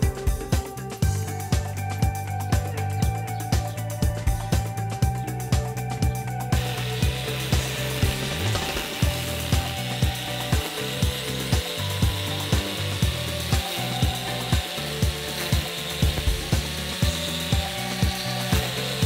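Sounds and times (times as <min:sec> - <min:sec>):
angle grinder cutting grass: 0:00.0 - 0:19.0
music with steady beat: 0:00.0 - 0:19.0.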